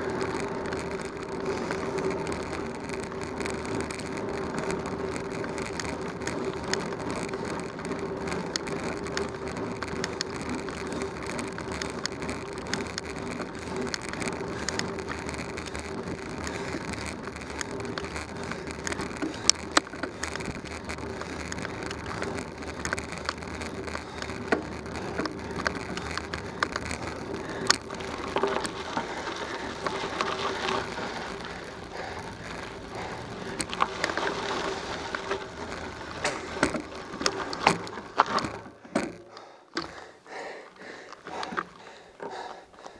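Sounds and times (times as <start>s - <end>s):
bicycle tyres rolling on pavement: 0.0s - 42.9s
sharp clicks from road bumps: 0.0s - 42.9s
tyres crackling on gravel: 0.0s - 42.9s.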